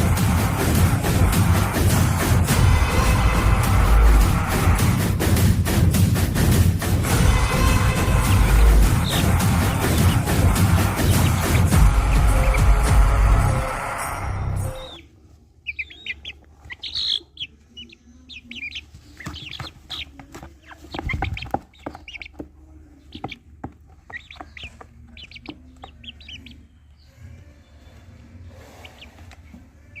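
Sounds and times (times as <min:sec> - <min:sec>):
chicks peeping and chirping: 0:00.0 - 0:30.0
chickens clucking: 0:04.1 - 0:14.0, 0:14.6 - 0:30.0.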